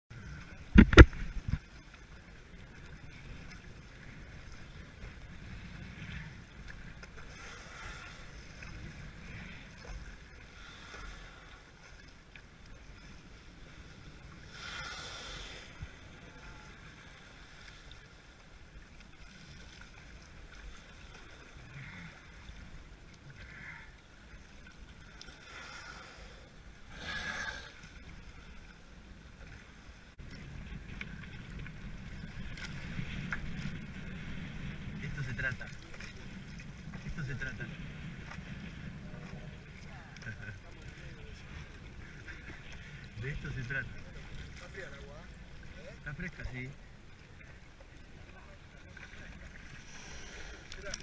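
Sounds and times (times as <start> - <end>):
water lapping and splashing: 0.1 - 51.0.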